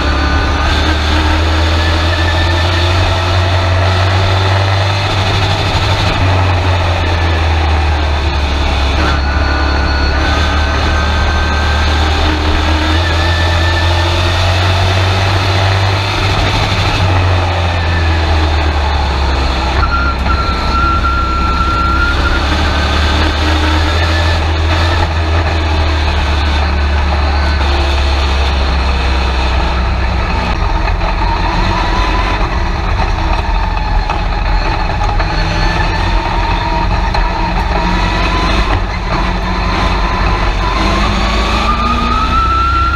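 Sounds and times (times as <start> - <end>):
truck engine at racing speed: 0.0 - 42.9.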